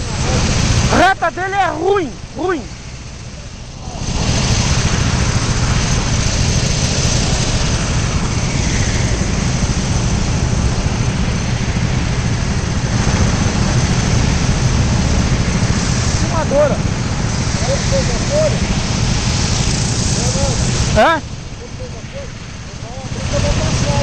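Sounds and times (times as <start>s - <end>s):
go-kart engine running hard: 0.0s - 24.0s
rushing wind noise: 0.0s - 24.0s.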